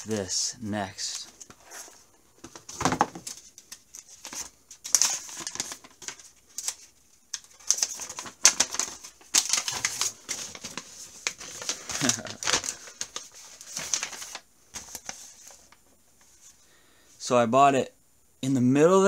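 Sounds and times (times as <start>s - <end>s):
plastic and paper crinkling: 0.0s - 16.6s.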